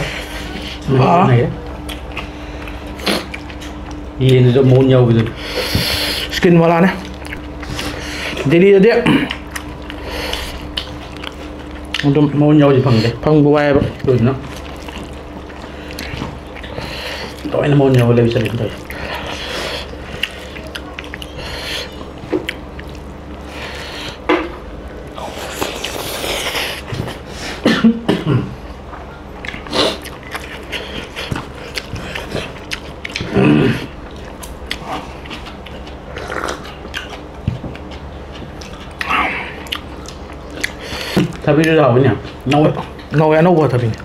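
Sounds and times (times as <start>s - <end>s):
chewing and mouth noises: 1.6s - 8.6s, 9.2s - 12.4s, 13.0s - 24.2s, 24.9s - 27.6s, 28.8s - 44.0s.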